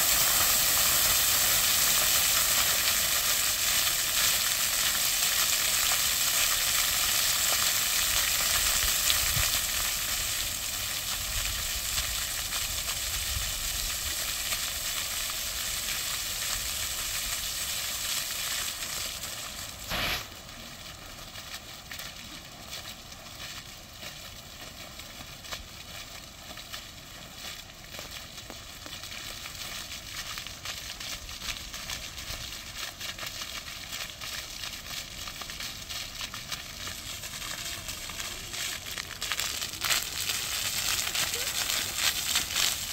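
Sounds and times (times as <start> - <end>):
fountain jets splashing: 0.0 - 42.9.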